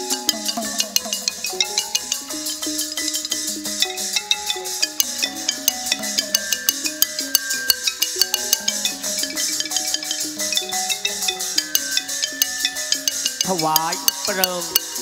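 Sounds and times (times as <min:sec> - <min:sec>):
sharp metallic clicks beat: 0:00.0 - 0:15.0
xylophone-like melody: 0:00.0 - 0:15.0.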